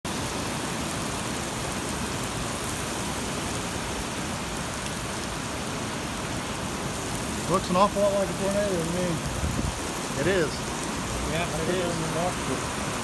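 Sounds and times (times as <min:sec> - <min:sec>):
steady rain falling: 0:00.1 - 0:13.0.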